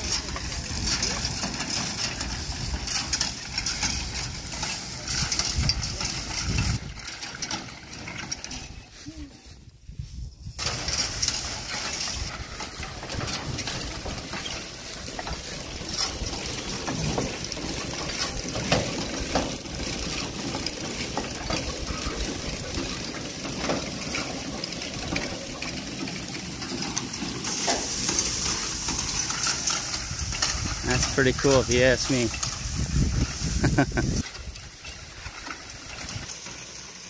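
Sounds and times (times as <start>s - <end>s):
hay loader rattling and rustling: 0.0s - 37.0s.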